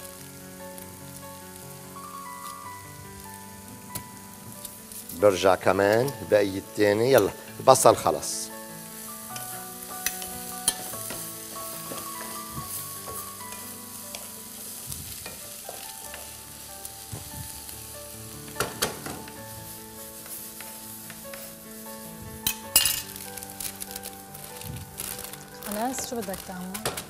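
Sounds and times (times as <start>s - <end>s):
onions sizzling in a pan: 0.0s - 27.0s
soft background music: 0.0s - 27.0s.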